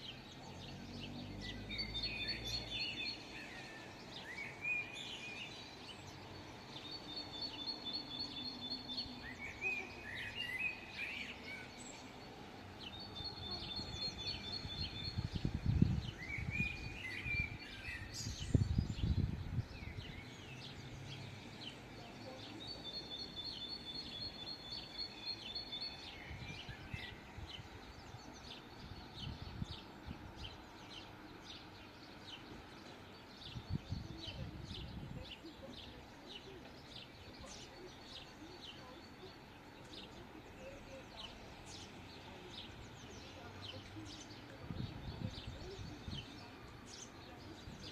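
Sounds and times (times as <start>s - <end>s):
city background hum: 0.0s - 47.9s
songbirds singing and chirping: 0.0s - 47.9s.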